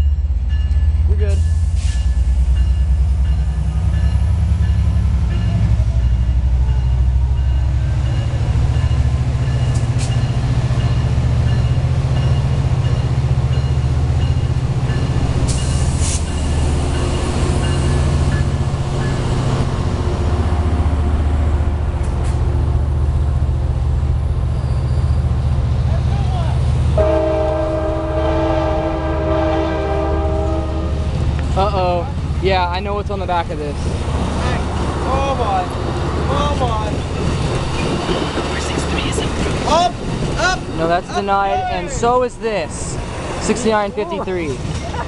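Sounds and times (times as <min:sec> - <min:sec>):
diesel locomotive droning: 0:00.0 - 0:45.0.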